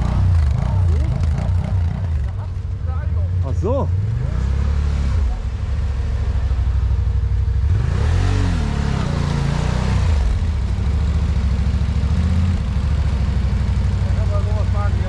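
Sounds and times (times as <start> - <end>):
vehicle engine idling and revving: 0.0 - 15.0.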